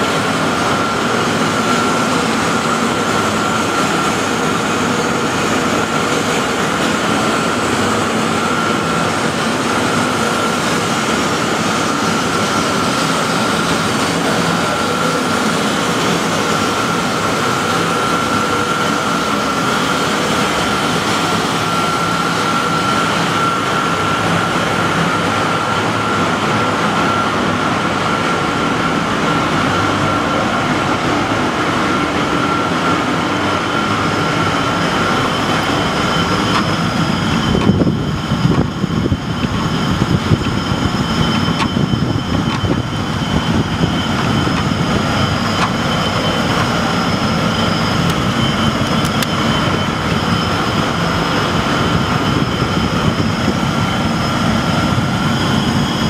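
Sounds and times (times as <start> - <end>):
high whine: 0.0 - 56.0
industrial machinery drone and hiss: 0.0 - 56.0.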